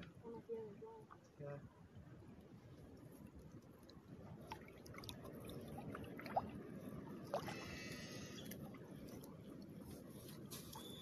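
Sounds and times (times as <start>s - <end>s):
water sloshing and trickling: 0.2s - 11.0s.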